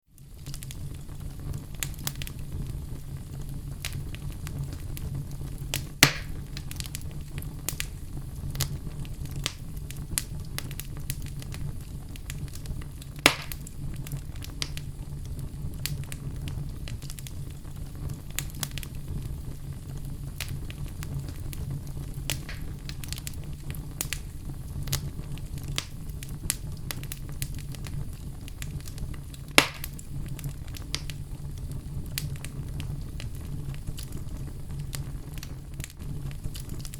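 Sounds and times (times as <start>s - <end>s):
wood fire crackling: 0.1s - 36.9s
loud fire pops: 0.2s - 36.9s.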